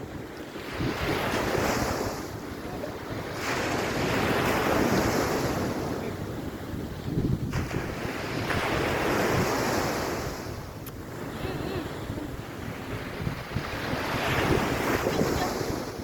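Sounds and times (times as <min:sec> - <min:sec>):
waves breaking on a beach: 0:00.0 - 0:16.0
wind buffeting microphone: 0:00.0 - 0:16.0.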